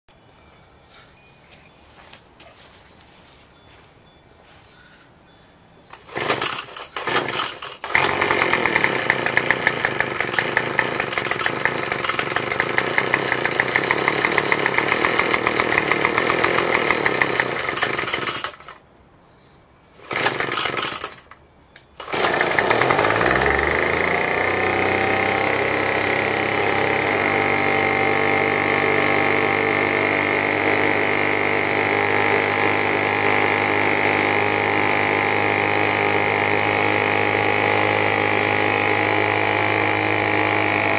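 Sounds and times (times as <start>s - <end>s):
leaf blower gas engine: 5.9s - 18.8s, 19.9s - 21.3s, 22.0s - 40.9s.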